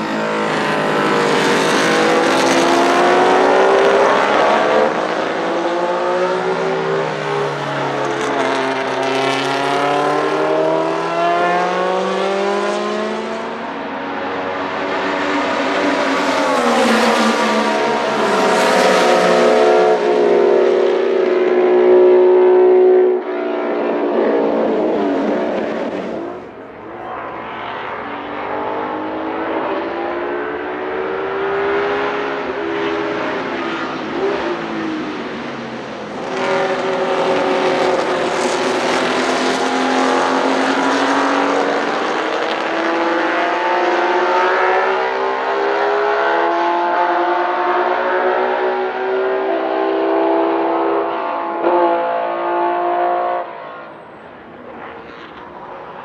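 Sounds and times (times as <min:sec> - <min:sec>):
racing engine at high revs: 0:00.0 - 0:56.0.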